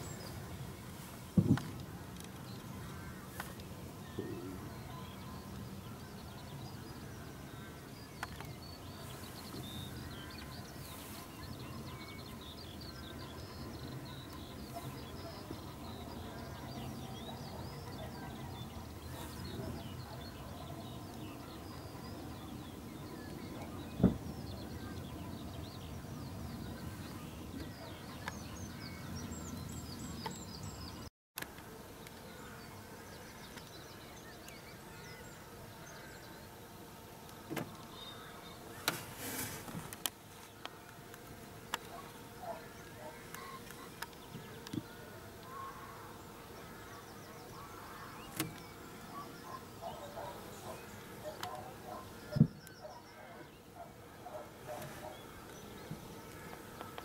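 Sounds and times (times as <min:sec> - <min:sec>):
distant birds chirping: 0:00.0 - 0:57.0.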